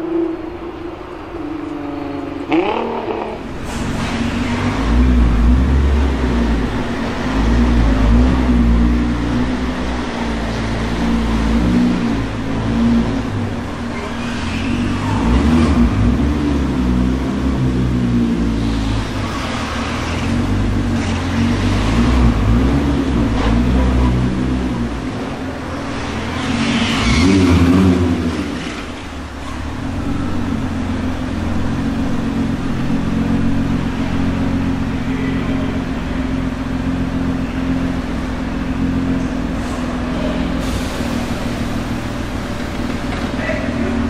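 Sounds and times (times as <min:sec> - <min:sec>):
car engine revving and idling: 0:00.0 - 0:44.0.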